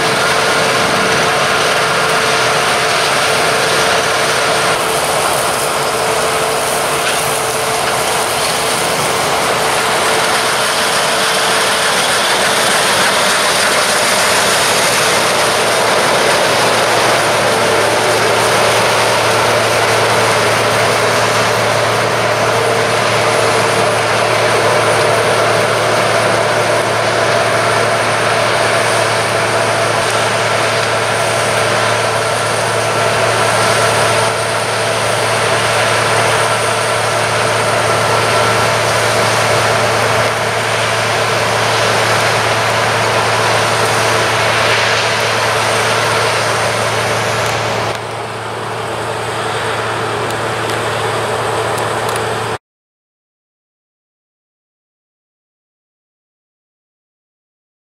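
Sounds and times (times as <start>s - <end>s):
combine harvester drone: 0.0s - 52.6s
tractor engine passing: 0.0s - 52.6s.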